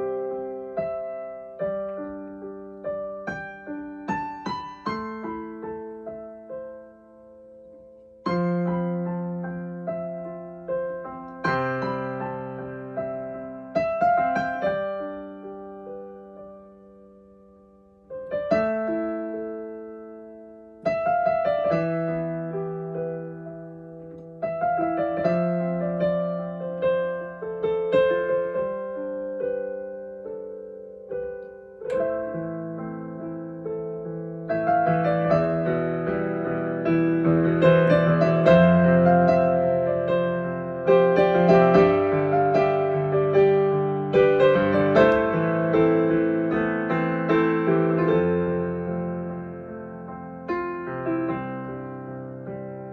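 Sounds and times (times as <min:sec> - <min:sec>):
solo piano chords: 0:00.0 - 0:52.9.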